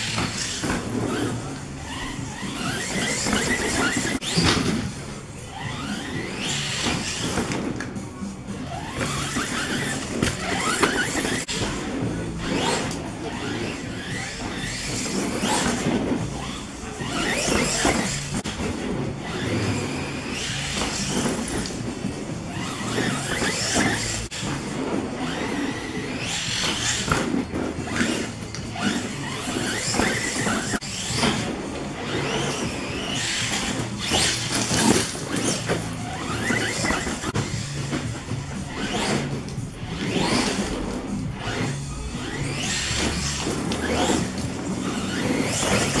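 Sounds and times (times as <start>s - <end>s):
electric motor whining: 0.0s - 46.0s.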